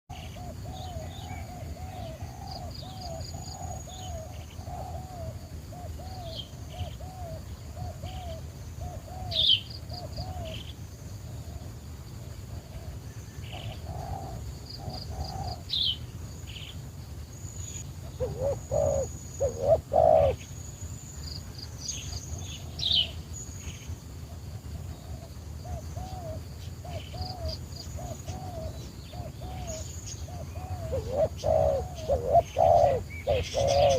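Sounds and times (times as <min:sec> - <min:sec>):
doves cooing: 0:00.1 - 0:11.8, 0:12.5 - 0:15.8, 0:17.8 - 0:20.5, 0:24.2 - 0:33.9
small birds chirping: 0:00.1 - 0:33.9.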